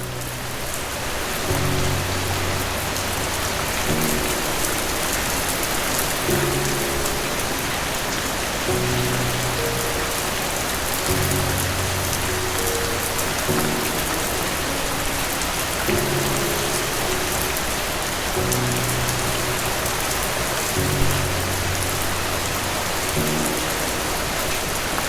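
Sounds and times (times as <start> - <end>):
dense rainfall: 0.0 - 25.0
soft low music chords: 0.0 - 25.0.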